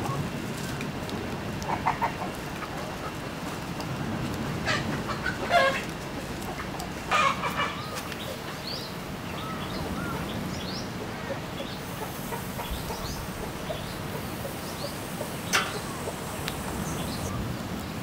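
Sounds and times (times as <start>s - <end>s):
chickens clucking: 1.6s - 17.3s
background hiss: 3.2s - 18.0s.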